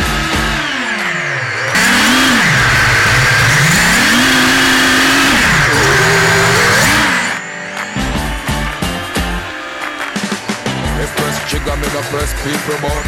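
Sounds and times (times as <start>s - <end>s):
motor revving: 0.0s - 13.0s.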